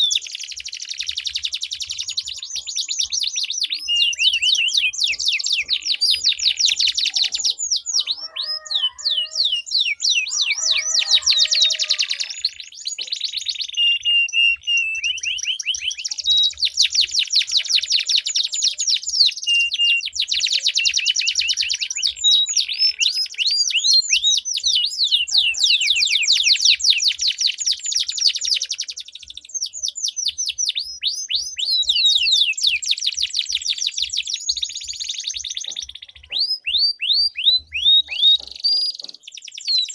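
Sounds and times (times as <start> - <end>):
canaries singing rolling trills: 0.0 - 39.9.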